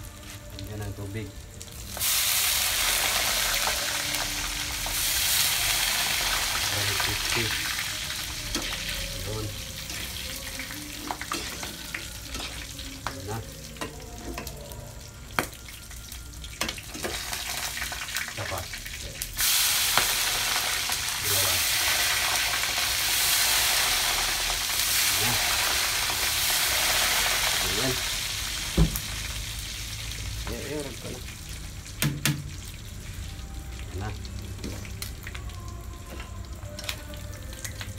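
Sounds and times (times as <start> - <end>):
food sizzling in pan: 0.0 - 37.9.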